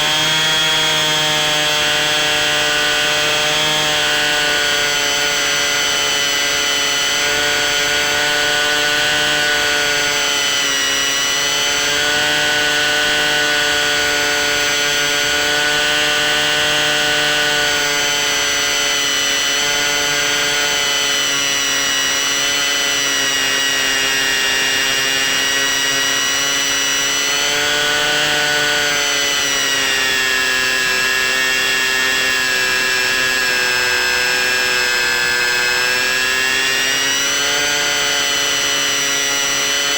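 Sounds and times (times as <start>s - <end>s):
electric plane motor whining: 0.0s - 39.9s.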